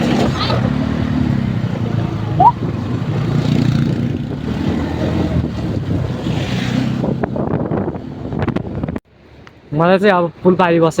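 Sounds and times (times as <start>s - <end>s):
motorcycle engines running: 0.0s - 8.9s
wind noise on microphone: 0.0s - 9.1s.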